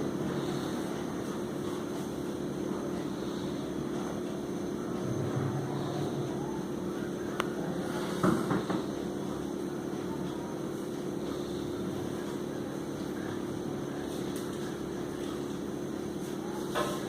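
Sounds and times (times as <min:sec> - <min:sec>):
mechanical motor hum: 0:00.0 - 0:17.0.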